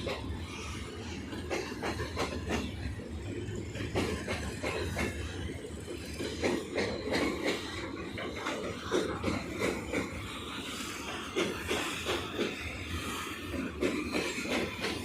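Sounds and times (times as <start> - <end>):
train rumbling past: 0.0 - 15.0
wheels clacking over rail joints: 0.0 - 15.0.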